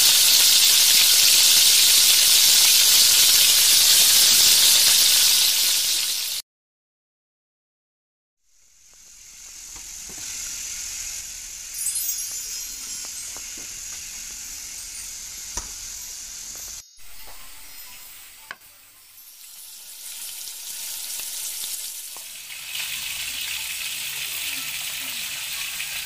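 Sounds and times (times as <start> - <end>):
butter sizzling in a wok: 0.0 - 6.4, 8.4 - 26.0.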